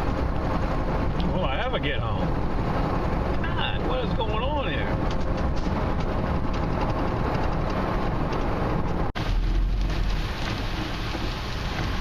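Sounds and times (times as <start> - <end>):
rain on truck: 0.0 - 12.0
road and engine rumble: 0.0 - 12.0.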